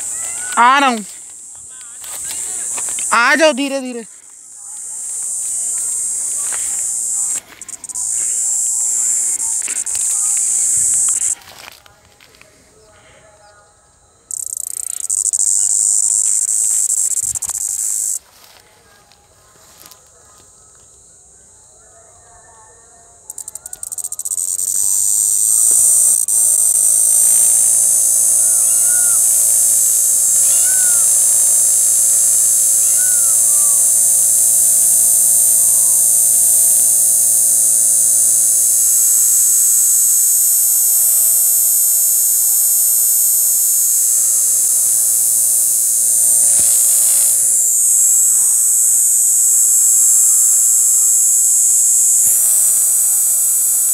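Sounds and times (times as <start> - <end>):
cicada buzzing: 0.0 - 11.7, 14.3 - 18.5, 23.3 - 53.9.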